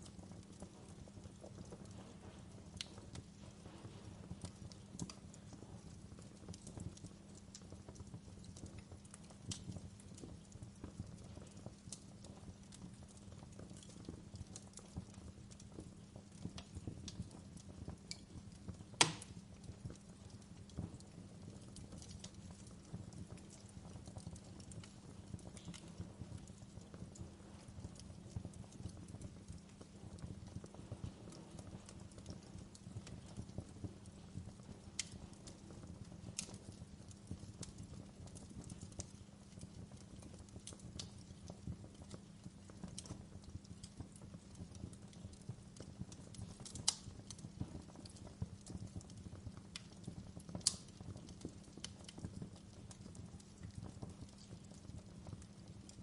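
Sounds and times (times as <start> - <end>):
sharp pops of burning wood: 0.0 - 56.0
wood fire crackling: 0.0 - 56.0.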